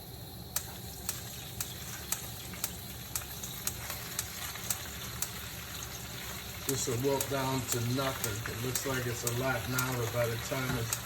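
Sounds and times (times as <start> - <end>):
vegetables sizzling in oil: 0.0 - 11.0
sharp ticks: 0.6 - 5.4, 6.7 - 11.0.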